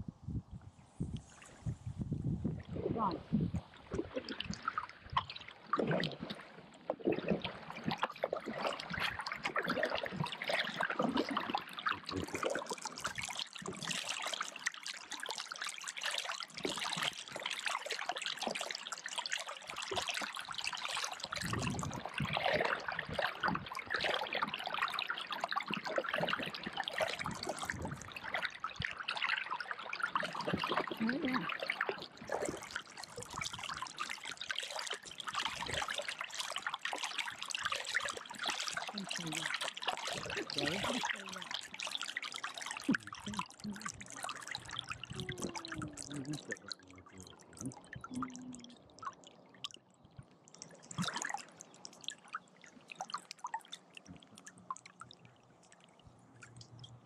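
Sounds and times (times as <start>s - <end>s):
water trickling: 1.0s - 57.0s.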